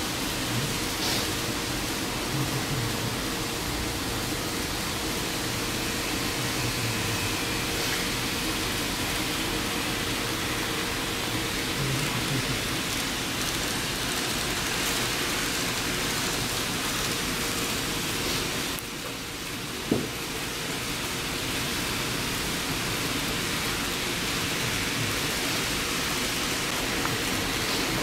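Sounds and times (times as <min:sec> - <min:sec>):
model trains rolling hiss: 0:00.0 - 0:28.0.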